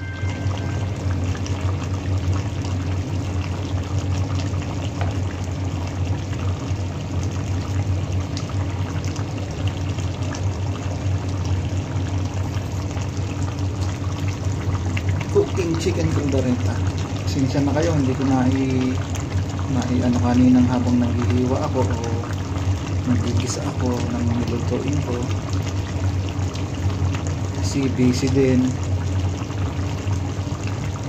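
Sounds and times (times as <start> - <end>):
steady low hum: 0.0 - 31.0
stew bubbling in a pan: 0.0 - 31.0.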